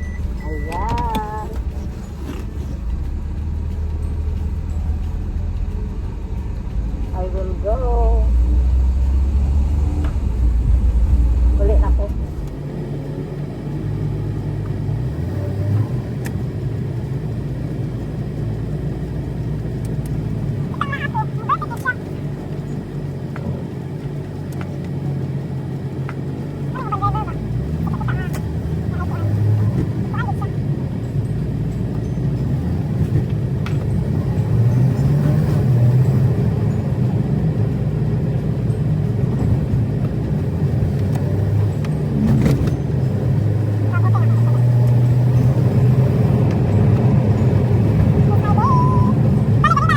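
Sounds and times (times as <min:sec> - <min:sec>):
car engine rumbling: 0:00.0 - 0:49.9.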